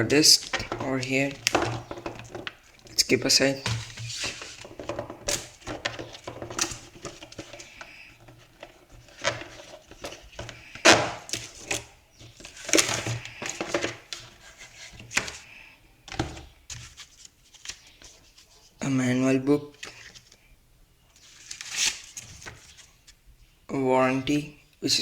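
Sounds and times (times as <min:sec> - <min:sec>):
cardboard and paper rustling: 0:00.0 - 0:18.8, 0:21.2 - 0:23.2.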